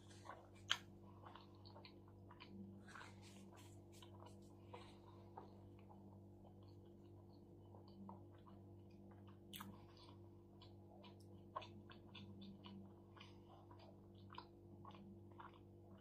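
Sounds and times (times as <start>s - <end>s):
soft wet chewing: 0.0s - 16.0s
steady low hum: 0.0s - 16.0s.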